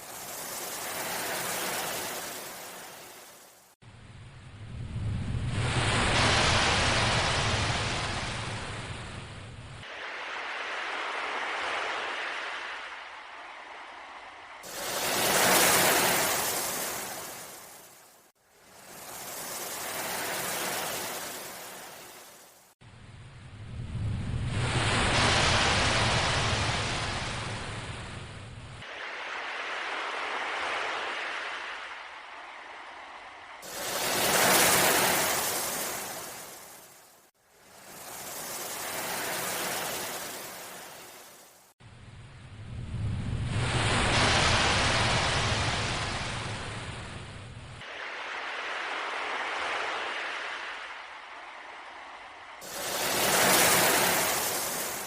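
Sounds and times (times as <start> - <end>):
ocean waves hissing surf: 0.0 - 3.8, 5.5 - 9.2, 9.8 - 22.8, 28.8 - 41.8, 43.5 - 55.0.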